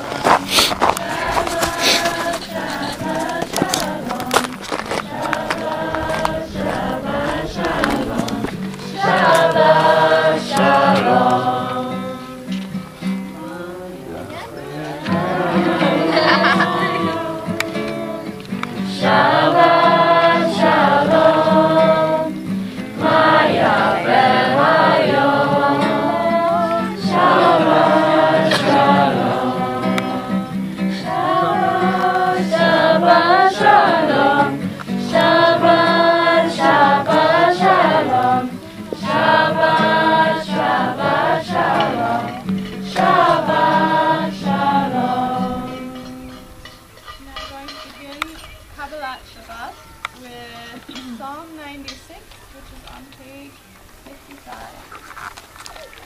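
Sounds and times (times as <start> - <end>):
group singing: 0.0 - 47.0.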